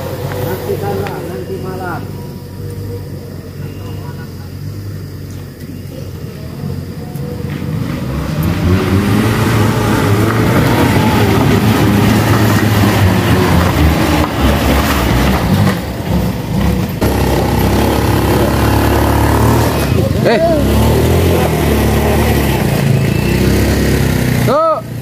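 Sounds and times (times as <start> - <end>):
scooter engine running: 0.0 - 14.6, 15.7 - 25.0
van engine labouring: 0.0 - 25.0.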